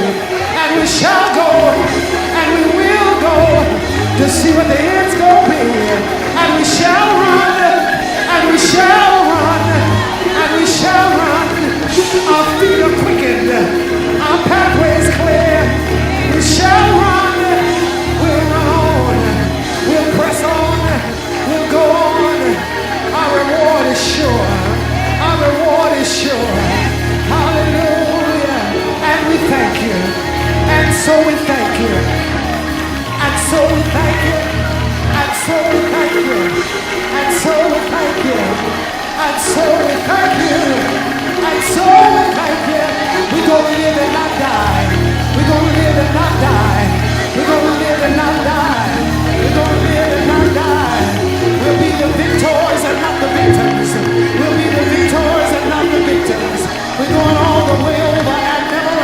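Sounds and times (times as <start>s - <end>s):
people shouting: 0.0s - 59.0s
voices singing gospel music: 0.0s - 59.0s.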